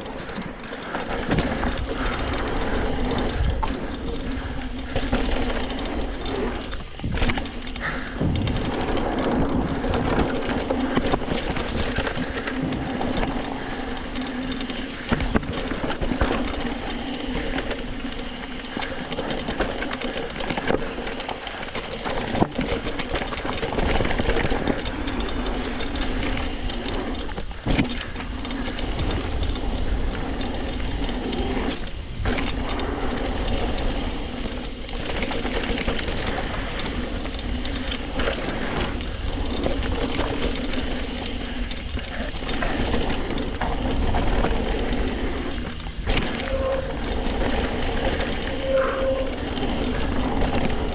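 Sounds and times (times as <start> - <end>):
bike rattling: 0.0 - 50.9
bike tyres on dirt trail: 0.0 - 50.9.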